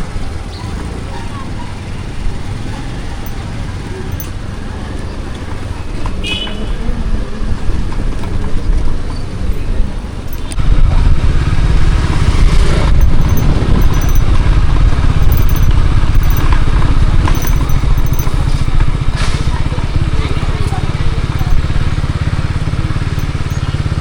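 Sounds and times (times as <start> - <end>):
motorcycle engine rumbling: 0.8 - 5.9, 9.8 - 24.0.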